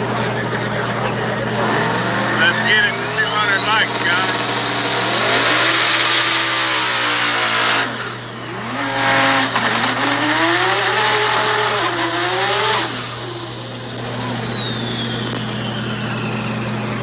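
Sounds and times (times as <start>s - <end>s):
car engine accelerating hard: 0.0s - 17.0s
high whine falling in pitch: 0.0s - 17.0s.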